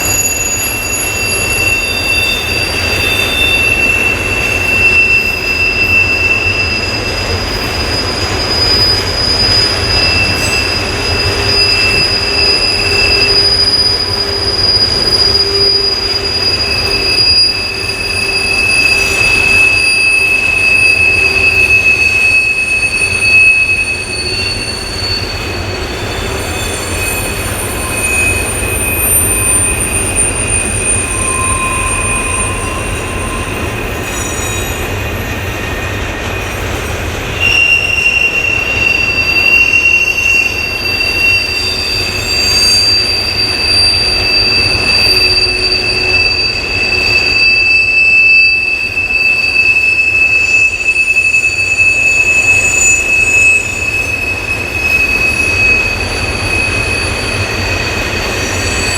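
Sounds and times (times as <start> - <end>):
low rumble of train wheels: 0.0 - 58.9
train wheels squealing on curve: 0.0 - 58.9.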